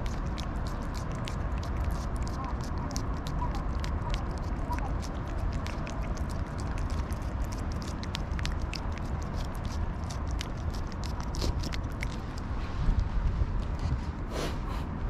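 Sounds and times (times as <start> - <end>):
cat tongue licking clicks: 0.0 - 12.5
low rumble: 0.0 - 15.0.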